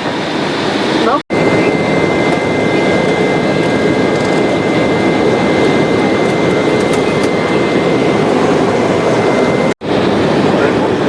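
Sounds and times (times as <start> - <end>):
jet cabin engine and airflow rush: 0.0 - 11.0.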